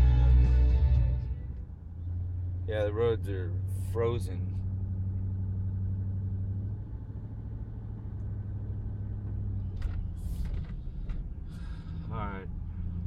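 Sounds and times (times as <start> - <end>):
truck engine and road drone: 0.0 - 13.0.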